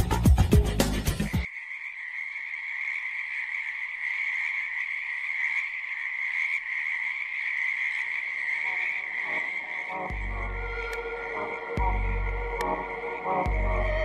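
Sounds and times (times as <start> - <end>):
frogs trilling chorus: 1.2 - 14.0.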